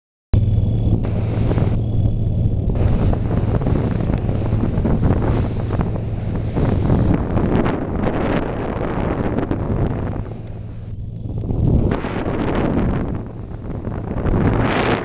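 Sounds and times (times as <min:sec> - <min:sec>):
boat engine hum: 0:00.3 - 0:15.0
water rushing past hull: 0:00.4 - 0:15.0
wind buffeting microphone: 0:00.4 - 0:15.0.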